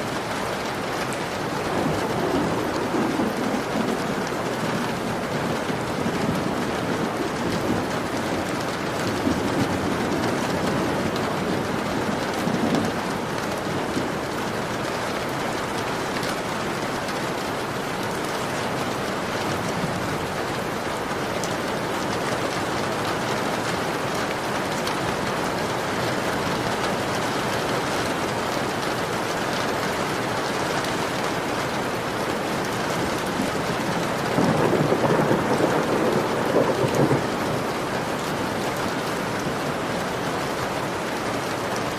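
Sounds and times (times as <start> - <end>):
heavy rain on a window: 0.0 - 41.9.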